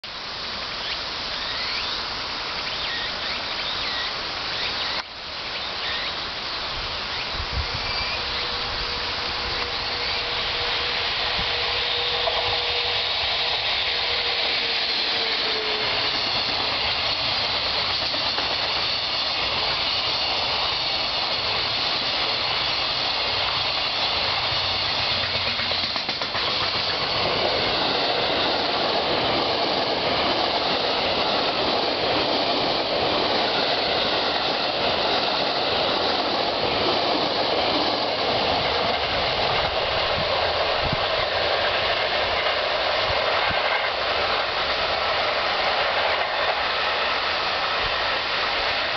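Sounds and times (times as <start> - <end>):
express train passing: 0.0 - 48.9
freight train wheels on rails: 0.0 - 48.9.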